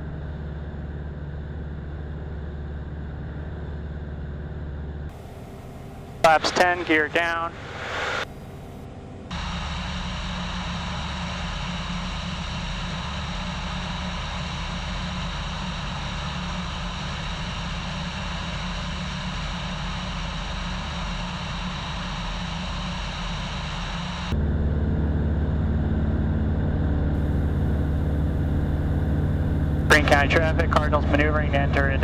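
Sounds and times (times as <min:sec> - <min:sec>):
light aircraft engine and propeller drone: 0:00.0 - 0:32.0.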